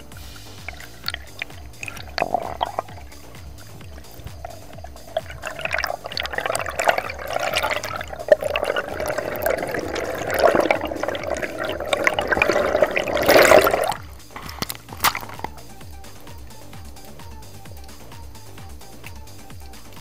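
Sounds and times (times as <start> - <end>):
underwater rushing and bubbling: 0.0 - 17.9.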